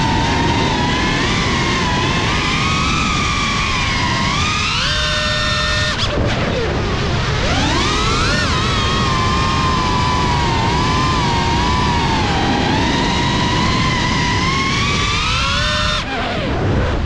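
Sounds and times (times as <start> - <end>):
drone motors whining: 0.0 - 17.0
rushing prop wash: 0.0 - 17.0.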